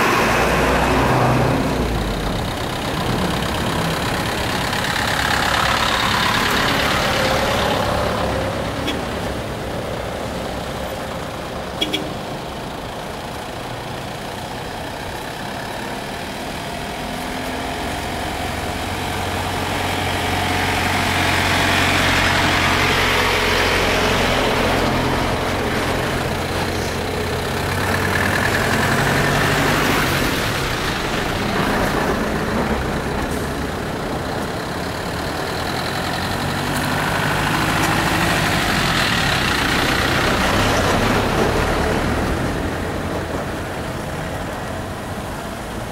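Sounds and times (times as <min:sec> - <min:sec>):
buses driving past: 0:00.0 - 0:45.9.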